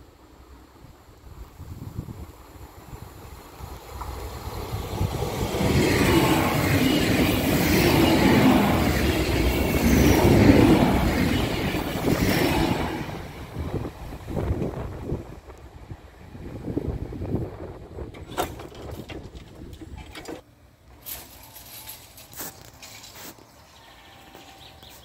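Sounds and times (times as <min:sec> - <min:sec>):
train wheels running on rails: 0:01.4 - 0:23.4.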